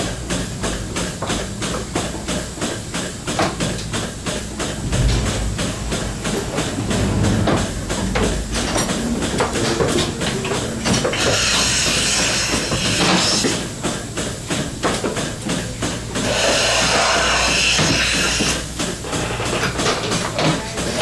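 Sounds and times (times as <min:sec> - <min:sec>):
milking machine pulsators clicking: 0:00.0 - 0:21.0.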